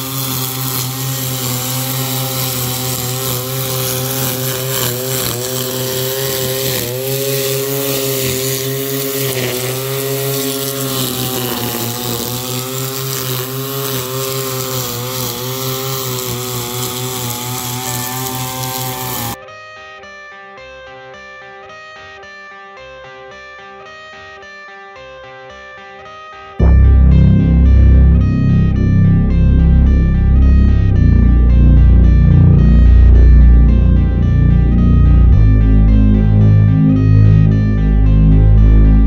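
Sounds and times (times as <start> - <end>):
string trimmer cutting grass: 0.0 - 19.4, 26.6 - 39.0
guitar music: 0.0 - 22.3, 26.0 - 39.0.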